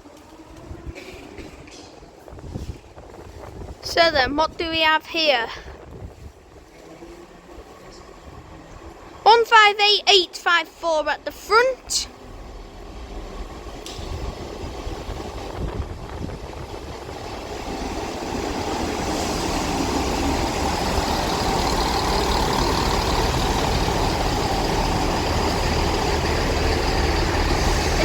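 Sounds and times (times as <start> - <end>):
diesel train engines idling: 0.0 - 28.0.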